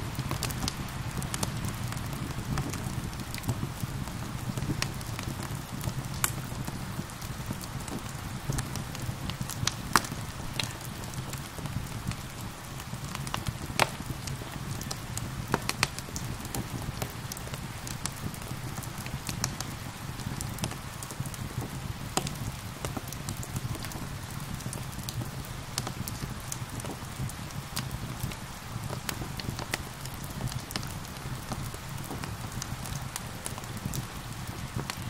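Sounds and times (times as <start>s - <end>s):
gentle rain hiss: 0.0s - 35.0s
wood fire crackling: 0.0s - 35.0s.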